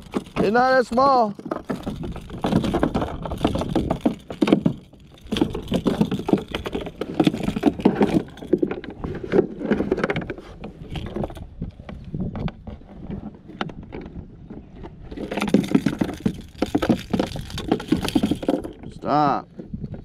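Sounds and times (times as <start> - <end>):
knocks and rattles on plastic hull: 0.0 - 20.0.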